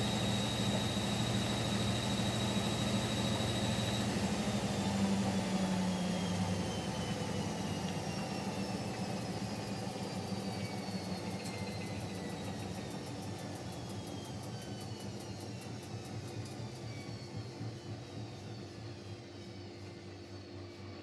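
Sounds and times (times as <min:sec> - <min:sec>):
washing machine spin slowing down: 0:00.0 - 0:21.0.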